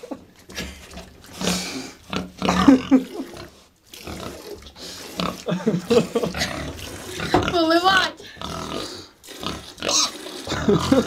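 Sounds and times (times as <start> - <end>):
young pigs grunting: 1.3 - 11.0.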